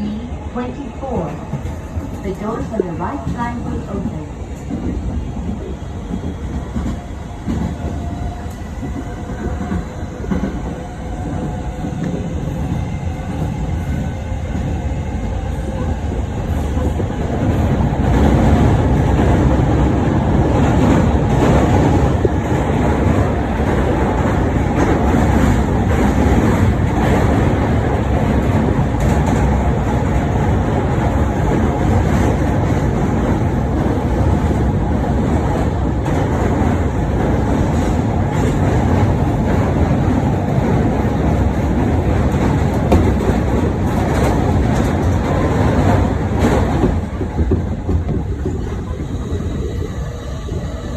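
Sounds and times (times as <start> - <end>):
rail clatter: 1.1 - 50.9
train wheels and motors rumbling: 1.1 - 50.9.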